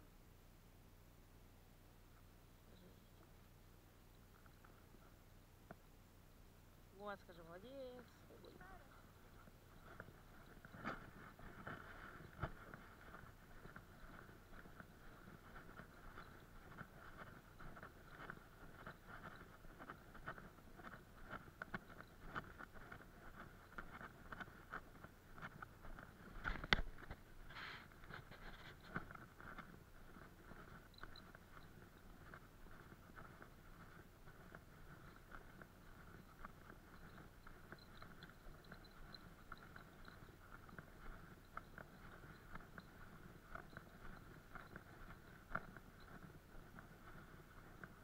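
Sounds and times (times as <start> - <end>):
footsteps in snow: 7.2 - 48.0.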